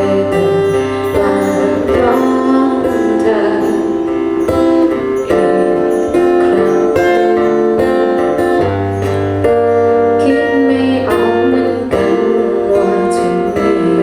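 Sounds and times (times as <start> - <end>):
live band with guitar chords: 0.0 - 14.0.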